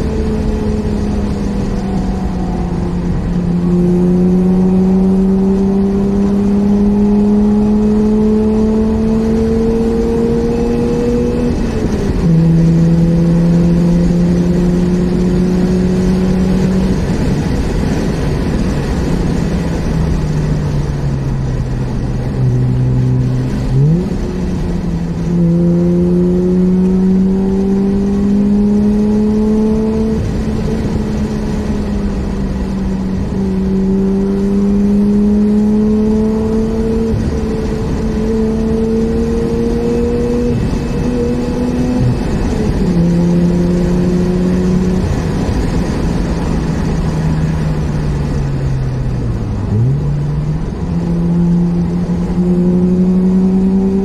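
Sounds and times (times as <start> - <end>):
rotary engine revving: 0.0 - 54.0.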